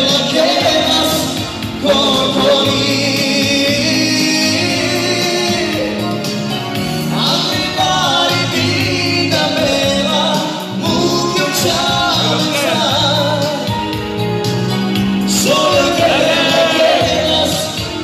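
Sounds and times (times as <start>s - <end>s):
man singing into microphone: 0.0s - 6.3s, 7.1s - 13.9s, 15.3s - 18.0s
electronic keyboards: 0.0s - 18.0s.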